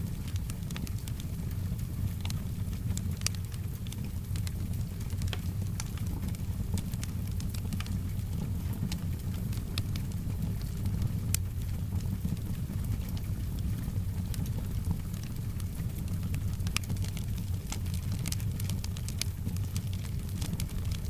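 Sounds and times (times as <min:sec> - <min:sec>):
soft rain: 0:00.0 - 0:21.0
wood fire crackling and popping: 0:00.0 - 0:21.0.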